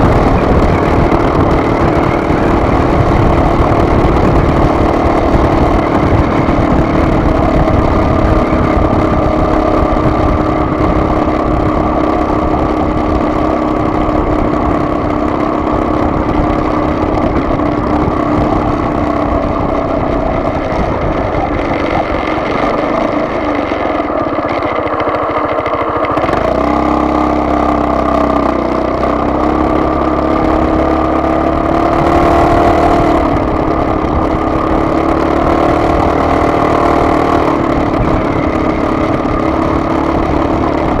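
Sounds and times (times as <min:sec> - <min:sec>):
vehicle engine droning: 0:00.0 - 0:41.0.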